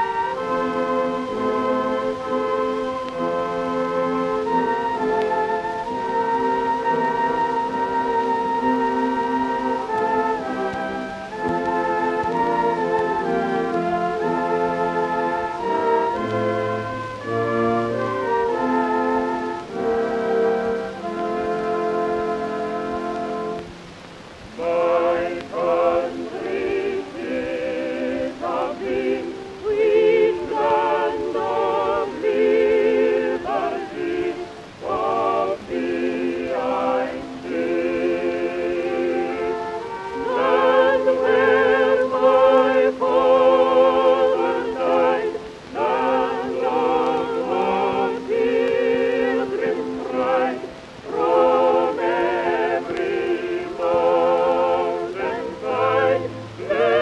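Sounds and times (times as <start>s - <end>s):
person singing with vibrato: 0.0s - 57.0s
sustained chords: 0.0s - 57.0s.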